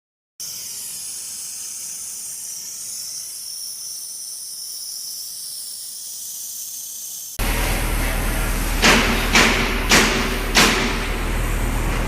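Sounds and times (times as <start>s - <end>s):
laser welding hiss: 0.4s - 11.7s.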